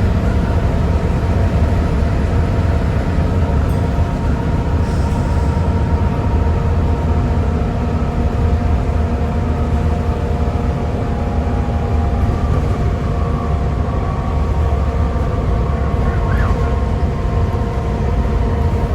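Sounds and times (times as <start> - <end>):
bus diesel engine drone: 0.0 - 18.9
engine whine: 0.0 - 18.9.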